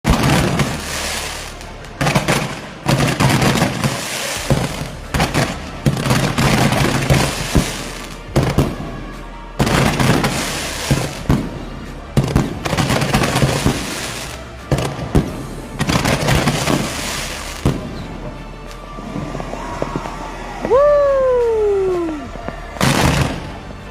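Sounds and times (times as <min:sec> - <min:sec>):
fireworks bangs: 0:00.0 - 0:23.9
music playing: 0:00.0 - 0:23.9.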